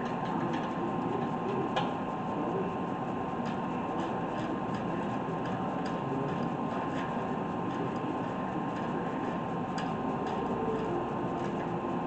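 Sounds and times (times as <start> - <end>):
garage background hum: 0.0 - 12.0.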